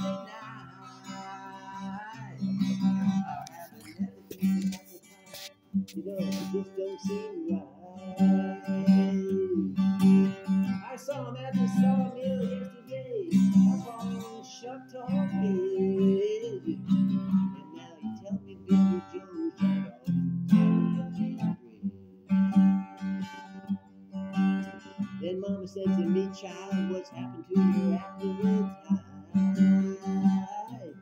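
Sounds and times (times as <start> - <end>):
person singing: 0.0 - 22.0, 24.5 - 31.0
acoustic guitar strumming: 0.0 - 31.0.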